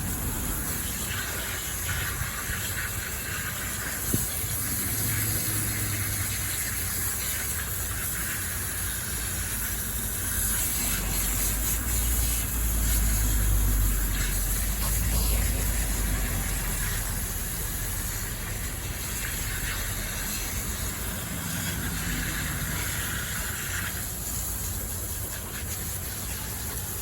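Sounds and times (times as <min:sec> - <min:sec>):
cleaning nozzle spraying: 0:00.0 - 0:26.6.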